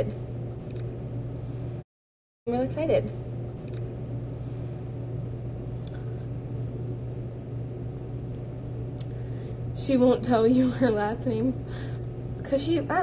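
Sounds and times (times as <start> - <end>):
low room hum: 0.0 - 1.8, 2.5 - 13.0.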